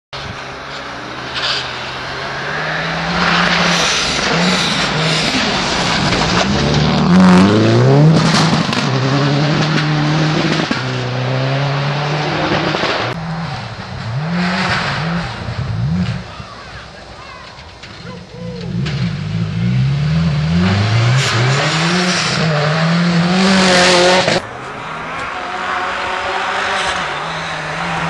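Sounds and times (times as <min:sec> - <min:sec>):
rally car engines revving: 0:00.2 - 0:28.0.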